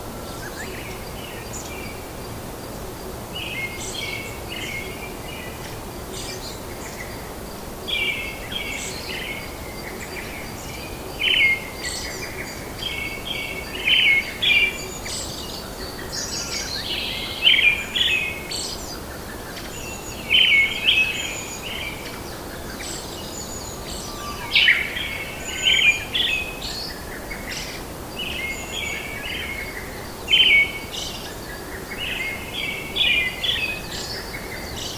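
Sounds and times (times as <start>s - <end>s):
background hiss: 0.0s - 34.9s
birds singing and chirping: 0.2s - 34.9s.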